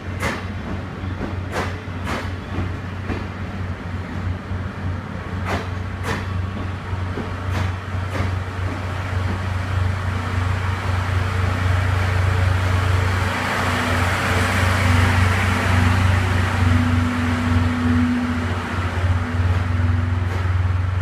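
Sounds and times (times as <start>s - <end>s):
train low hum: 0.0s - 21.0s
wheel and rail noise: 0.0s - 21.0s.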